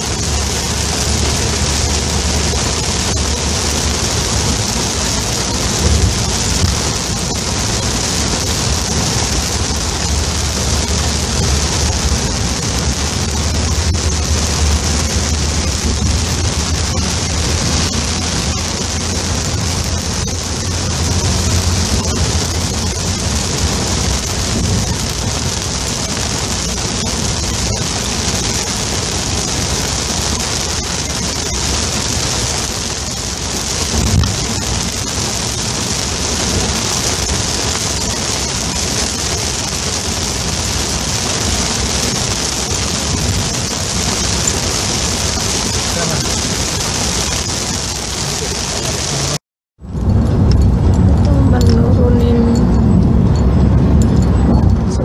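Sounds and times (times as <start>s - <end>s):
heavy rain on car roof: 0.0s - 55.0s
road and engine rumble: 0.0s - 55.0s.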